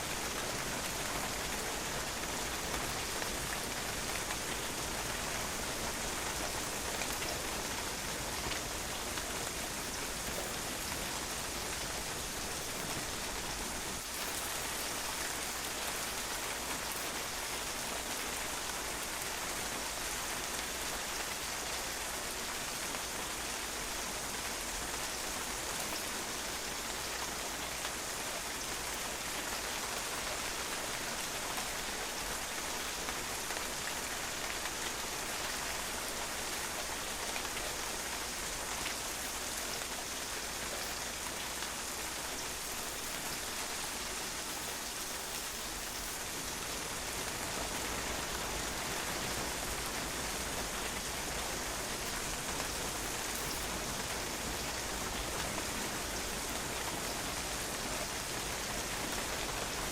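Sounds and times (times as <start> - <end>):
rain pattering on patio: 0.0 - 59.9.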